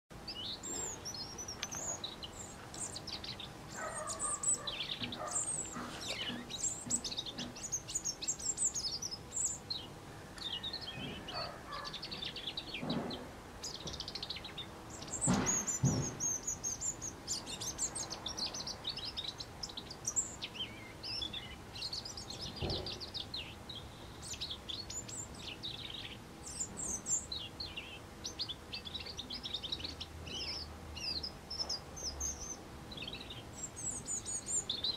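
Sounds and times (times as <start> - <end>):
robin singing: 0.1 - 34.9.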